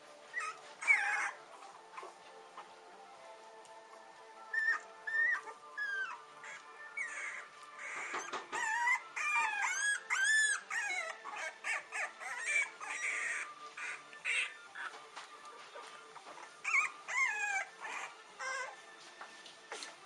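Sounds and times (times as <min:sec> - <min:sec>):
puppies whimpering and squeaking: 0:00.0 - 0:20.0.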